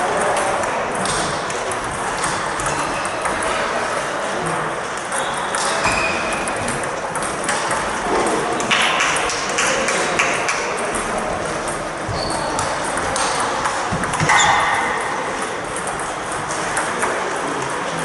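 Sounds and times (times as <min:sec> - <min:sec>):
table tennis balls clicking: 0:00.0 - 0:18.0.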